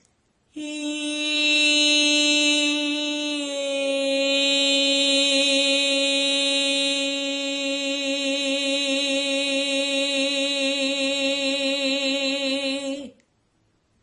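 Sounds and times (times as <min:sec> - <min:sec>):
woman singing one long tone: 0:00.5 - 0:13.2.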